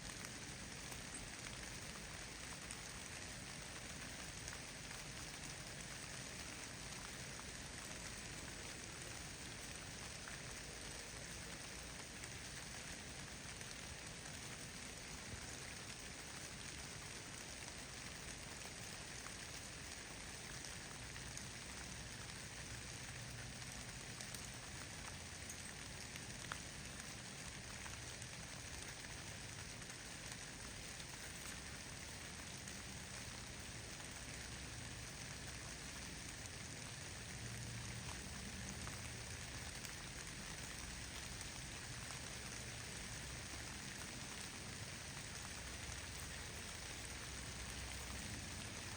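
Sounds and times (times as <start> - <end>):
snow pattering on leaves: 0.0 - 48.9.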